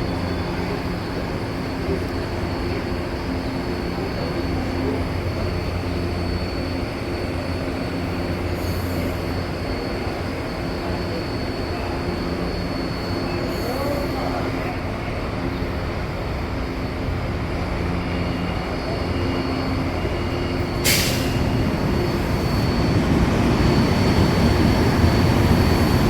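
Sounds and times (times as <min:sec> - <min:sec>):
electric train rumbling on track: 0:00.0 - 0:26.0.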